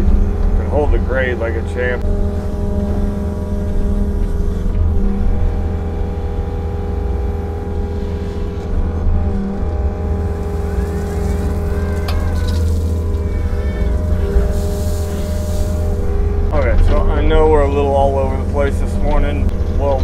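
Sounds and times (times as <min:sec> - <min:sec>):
excavator diesel engine and hydraulics: 0:00.0 - 0:20.0
faint rising whine: 0:00.0 - 0:20.0.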